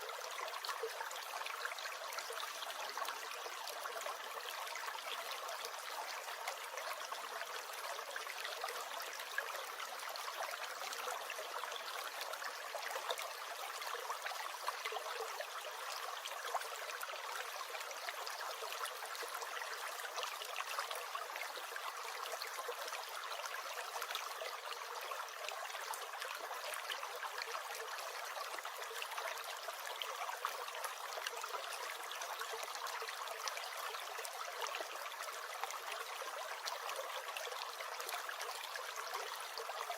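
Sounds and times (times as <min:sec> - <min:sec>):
stream gurgling and trickling: 0:00.0 - 0:39.9.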